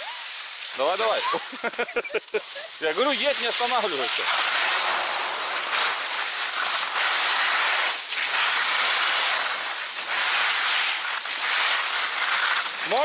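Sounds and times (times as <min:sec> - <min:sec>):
skis scraping on snow: 0:00.0 - 0:13.0.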